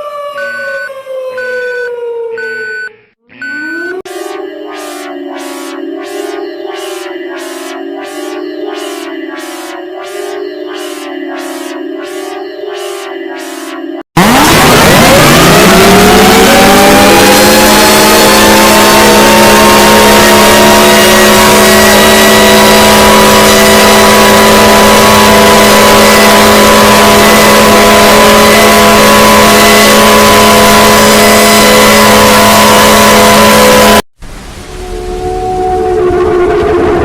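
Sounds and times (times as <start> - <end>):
warning siren wailing: 0.0 - 34.0, 34.8 - 37.0.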